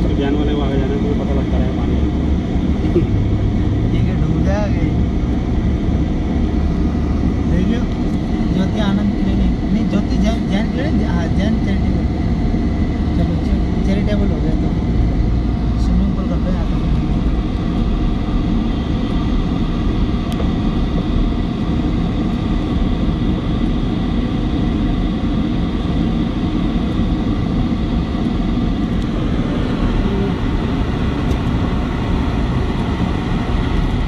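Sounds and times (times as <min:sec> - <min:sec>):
road noise: 0:00.0 - 0:34.0
vehicle engine: 0:00.0 - 0:34.0.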